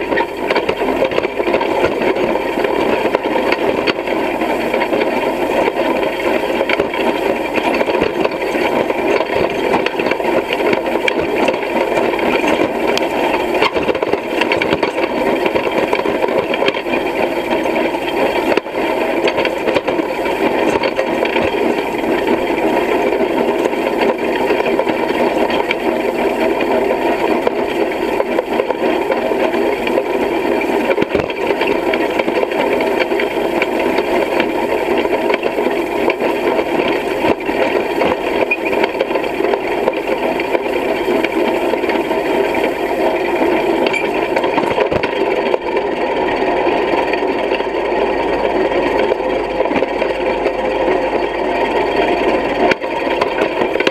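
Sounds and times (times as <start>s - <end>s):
hay rake rattling: 0.0s - 53.9s
tractor engine running: 0.0s - 53.9s.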